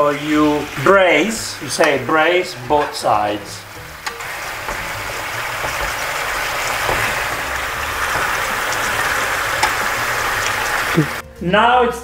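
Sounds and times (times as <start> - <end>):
chicken sizzling in a tray: 0.0 - 11.2.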